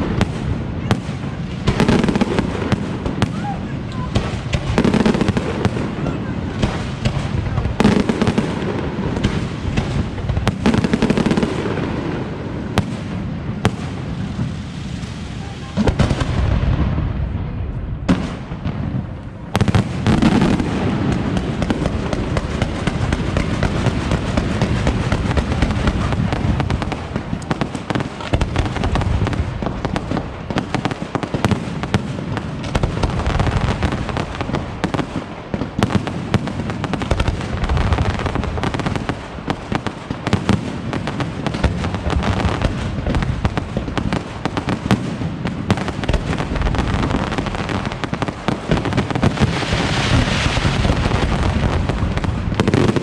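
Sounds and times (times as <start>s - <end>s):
fireworks bursts and crackling: 0.0s - 53.0s.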